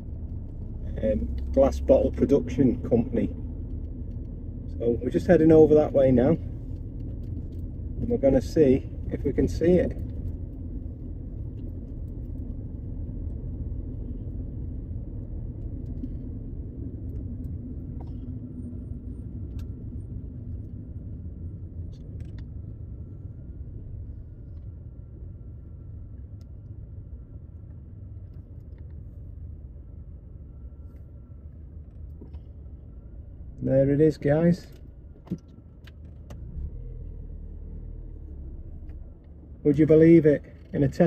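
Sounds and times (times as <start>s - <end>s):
engine and tyres rumbling: 0.0s - 41.0s.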